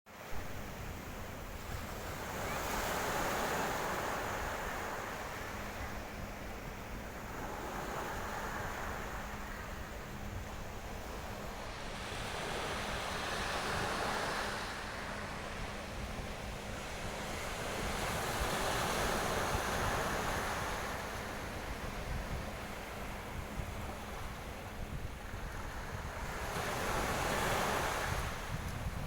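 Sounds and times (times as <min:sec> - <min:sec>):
wind buffeting microphone: 0:00.6 - 0:29.0.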